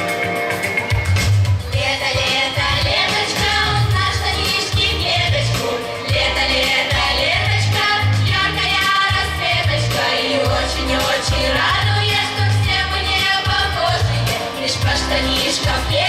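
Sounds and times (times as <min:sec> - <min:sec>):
amplified band accompaniment: 0:00.0 - 0:16.0.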